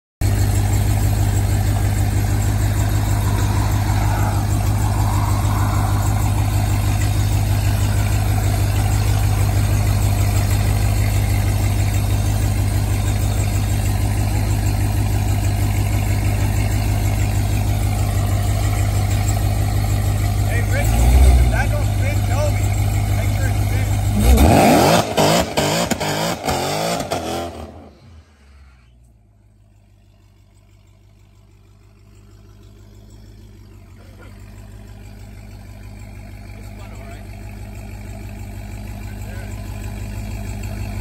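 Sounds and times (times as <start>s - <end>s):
car engine idling: 0.2s - 41.0s.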